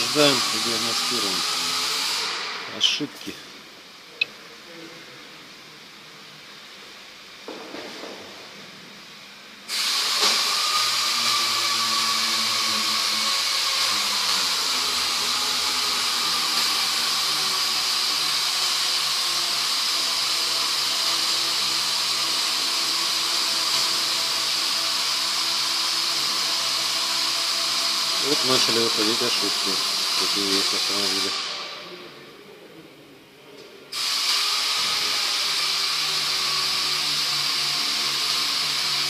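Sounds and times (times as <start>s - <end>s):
machine running with hiss and whine: 0.0s - 32.6s, 33.9s - 39.0s.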